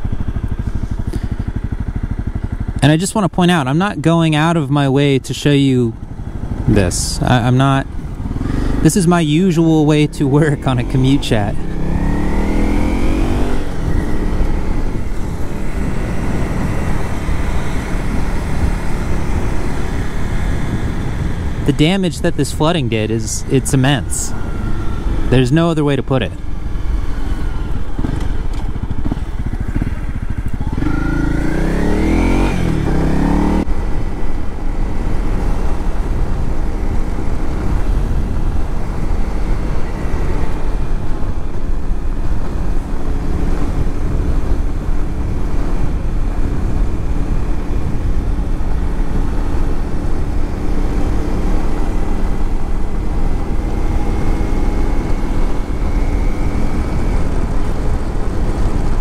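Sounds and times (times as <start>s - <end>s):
low wind rumble: 0.0s - 59.0s
motorcycle engine accelerating: 0.0s - 59.0s.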